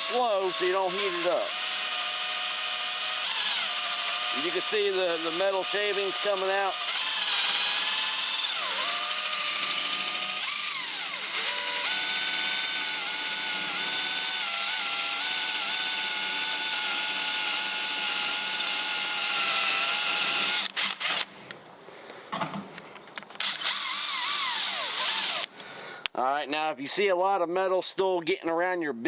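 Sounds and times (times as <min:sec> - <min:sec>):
cordless drill boring metal: 0:00.0 - 0:21.3, 0:23.4 - 0:25.6.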